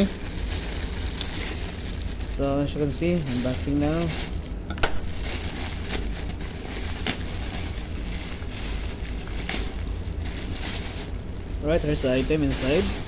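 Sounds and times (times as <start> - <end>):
packaging tearing and crackling: 0.0 - 13.0.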